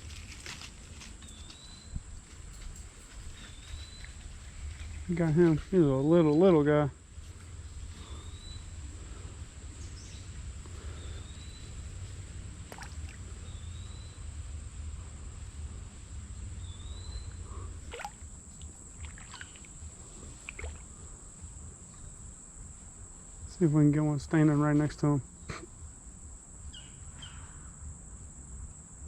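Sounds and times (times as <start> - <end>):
high insect drone: 0.0 - 29.0.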